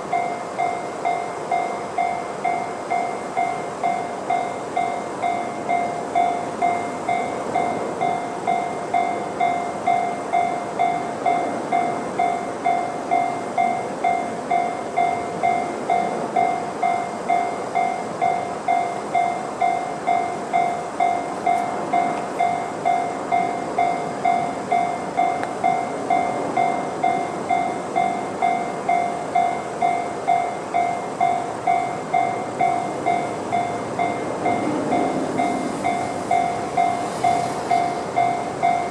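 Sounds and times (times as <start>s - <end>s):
train rushing past: 0.0s - 38.9s.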